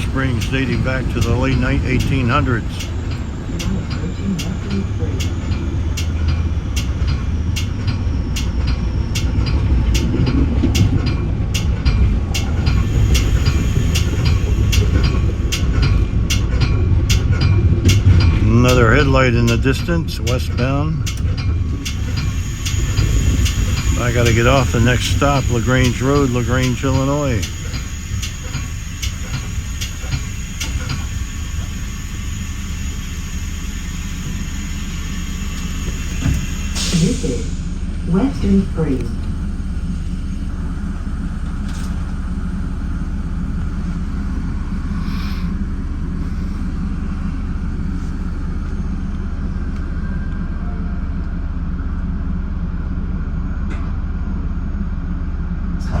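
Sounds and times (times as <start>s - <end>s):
rail clicks: 0.0s - 54.8s, 55.6s - 56.0s
train rumbling on rails: 0.0s - 56.0s.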